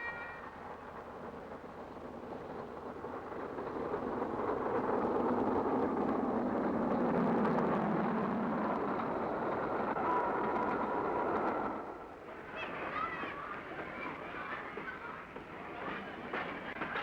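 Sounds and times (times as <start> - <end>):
steam train running at speed: 0.0 - 7.2, 8.5 - 17.0.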